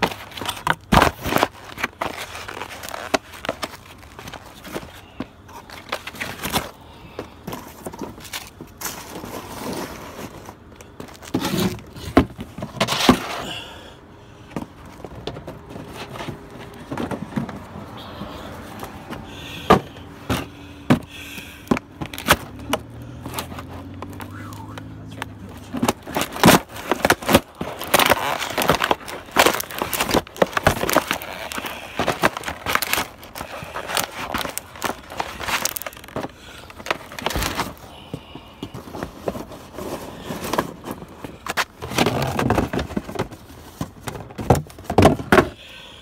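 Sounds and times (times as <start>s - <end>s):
cardboard boxes crunching underfoot: 0.0s - 45.6s
cardboard boxes rustling and scraping: 0.0s - 45.7s.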